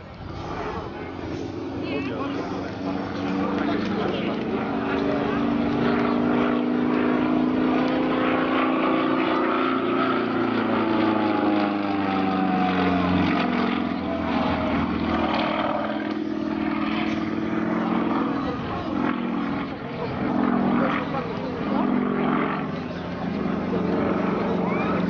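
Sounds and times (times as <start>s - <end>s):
propeller plane engine droning: 0.0s - 25.0s.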